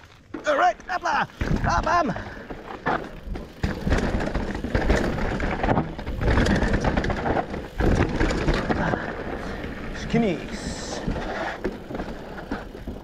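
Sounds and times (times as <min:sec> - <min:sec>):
bike knocks and rattles: 0:00.2 - 0:13.0.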